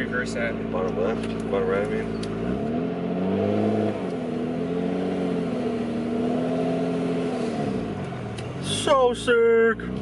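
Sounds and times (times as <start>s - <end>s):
car engine from inside cabin: 0.0s - 10.0s.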